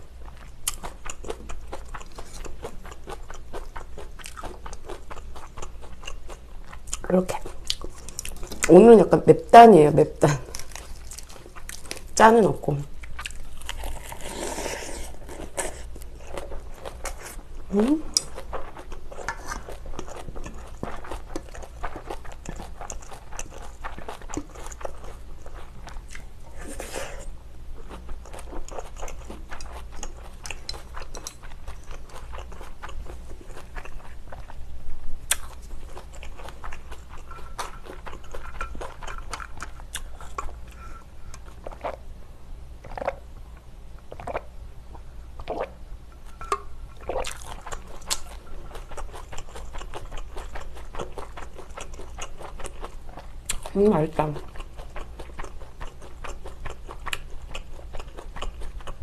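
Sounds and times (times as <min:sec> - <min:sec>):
person chewing food: 0:00.1 - 0:08.7, 0:10.4 - 0:12.2, 0:12.9 - 0:42.1, 0:42.8 - 0:53.8, 0:54.4 - 0:59.0.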